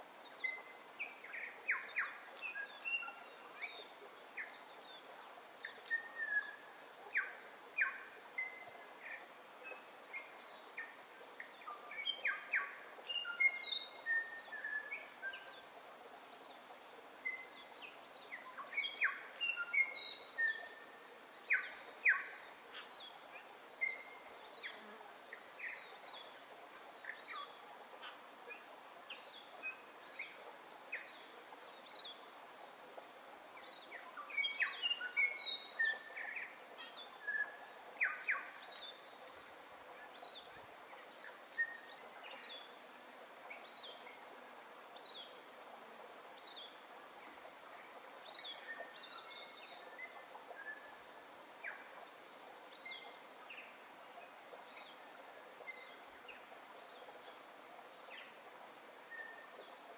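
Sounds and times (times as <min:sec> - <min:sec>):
outdoor ambient hiss: 0:00.0 - 0:59.9.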